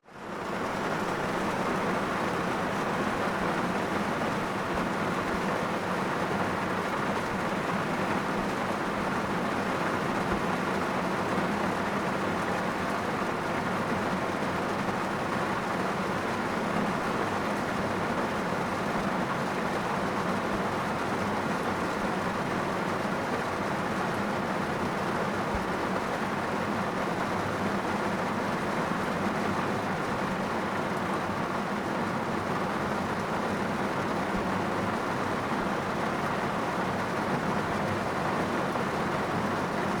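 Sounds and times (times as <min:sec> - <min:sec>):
heavy rain on car roof: 0:00.1 - 0:40.0.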